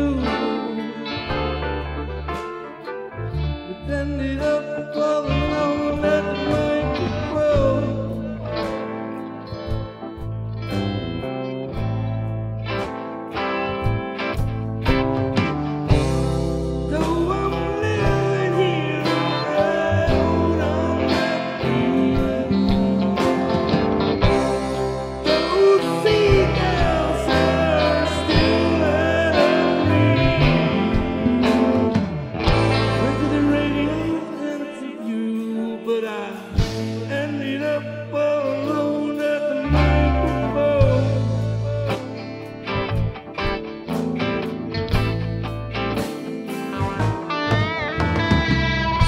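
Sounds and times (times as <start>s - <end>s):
bass: 0.0s - 49.0s
blues band playing: 0.0s - 49.0s
guitar: 0.0s - 49.0s.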